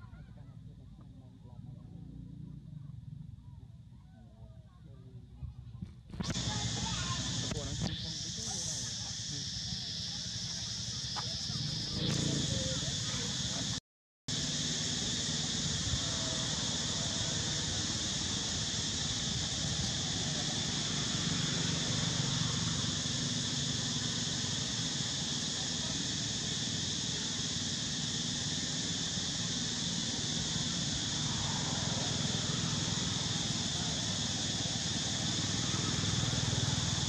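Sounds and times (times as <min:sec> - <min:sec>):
insects droning: 0:06.2 - 0:37.0.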